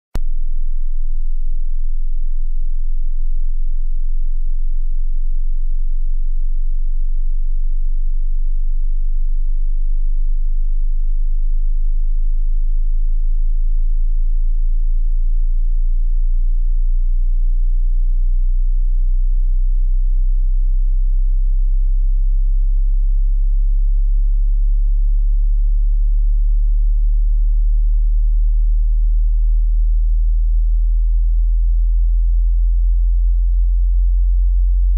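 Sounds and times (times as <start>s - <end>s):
low-pitched sine tone: 0.2s - 34.9s.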